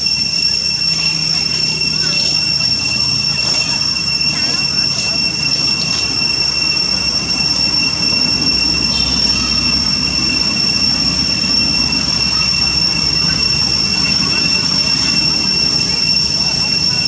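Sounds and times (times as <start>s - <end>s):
cicada chorus drone: 0.0s - 17.0s.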